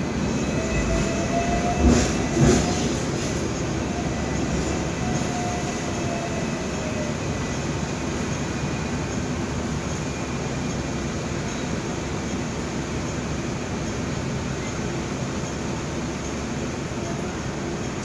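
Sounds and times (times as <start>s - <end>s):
tram engine rumble: 0.0s - 18.0s.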